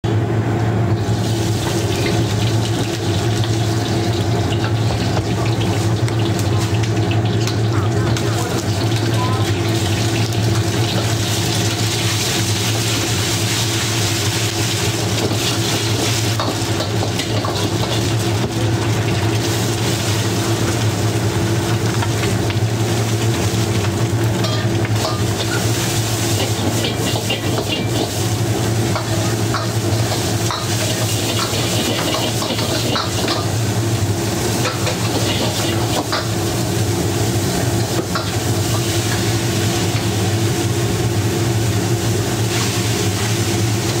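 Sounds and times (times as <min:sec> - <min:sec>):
food sizzling in a wok: 0:00.2 - 0:44.0.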